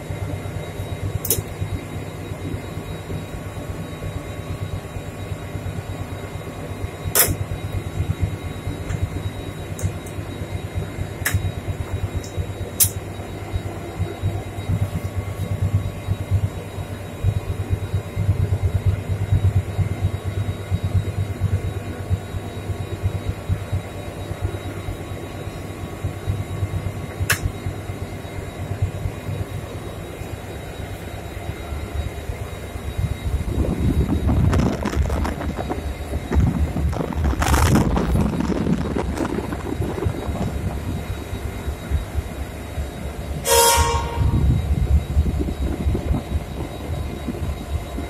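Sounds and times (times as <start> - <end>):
faint machine tones: 0.0 - 48.0
diesel locomotive rumbling: 1.0 - 48.0.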